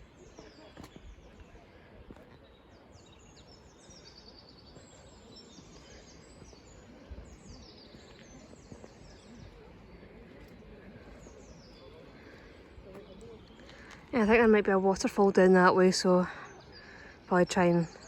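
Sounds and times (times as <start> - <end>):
faint outdoor hiss: 0.0 - 18.0
songbirds chirping and trilling: 0.0 - 18.0.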